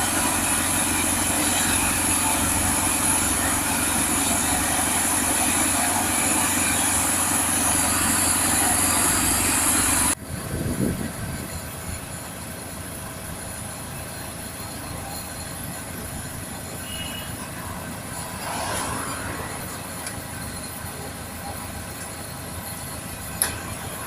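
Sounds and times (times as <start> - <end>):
heavy engines rumbling: 0.0 - 24.0.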